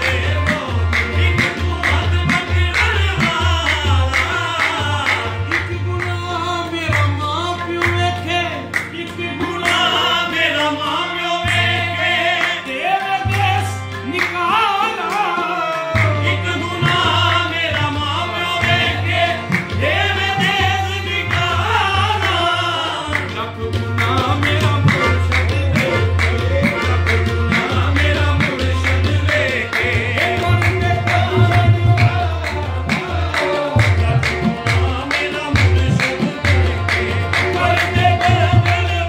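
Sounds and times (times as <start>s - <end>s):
harmonium drone: 0.0s - 39.0s
lead singer: 0.0s - 39.0s
tabla: 0.0s - 39.0s.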